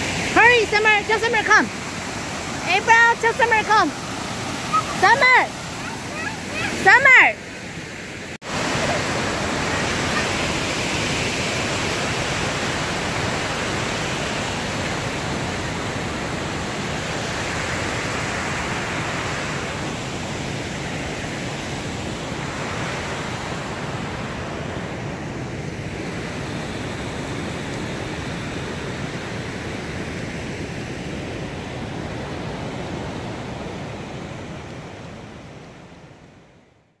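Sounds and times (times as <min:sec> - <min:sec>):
water rushing through a dam: 0:00.0 - 0:35.5.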